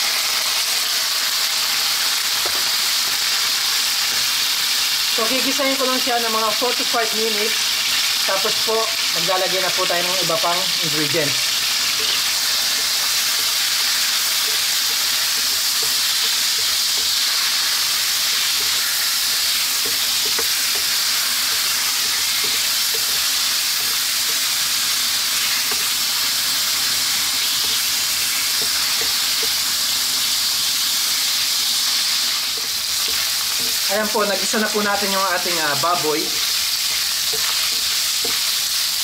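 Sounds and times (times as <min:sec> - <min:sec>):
pork sizzling in hot oil: 0:00.0 - 0:39.0.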